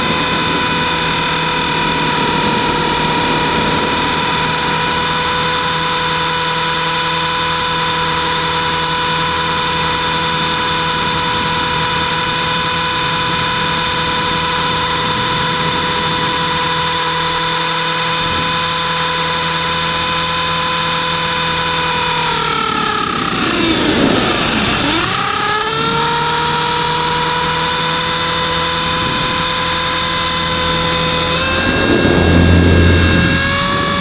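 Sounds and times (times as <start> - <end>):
rc helicopter motor whine: 0.0 - 34.0.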